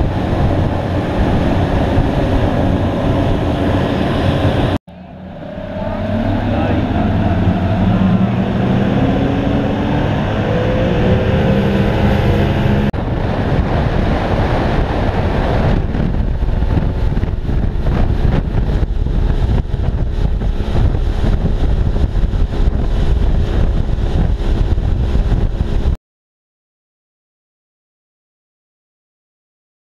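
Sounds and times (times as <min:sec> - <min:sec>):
rushing water and spray: 0:00.0 - 0:04.8, 0:05.4 - 0:26.0
outboard motor running: 0:00.0 - 0:26.0
wind buffeting microphone: 0:00.0 - 0:26.0.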